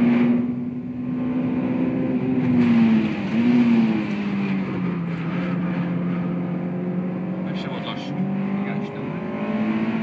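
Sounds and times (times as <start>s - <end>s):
car engine at speed: 0.0s - 10.0s.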